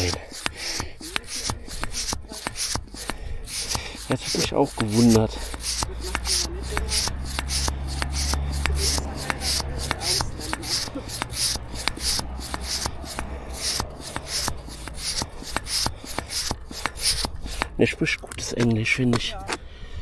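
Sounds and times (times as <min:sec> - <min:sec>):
bicycle pump strokes: 0:00.0 - 0:19.6.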